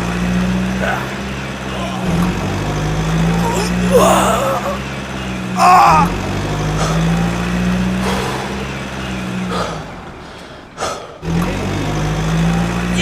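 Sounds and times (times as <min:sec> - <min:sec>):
heavy vehicle engine drone: 0:00.0 - 0:13.0.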